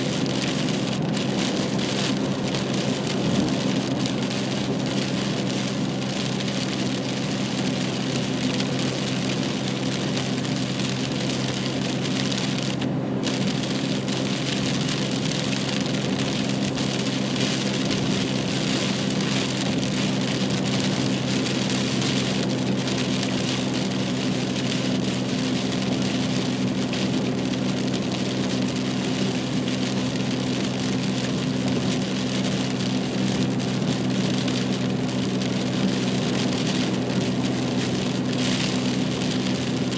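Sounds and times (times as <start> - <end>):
engine and tyre hum: 0.0 - 39.9
rain on a car: 0.0 - 39.9.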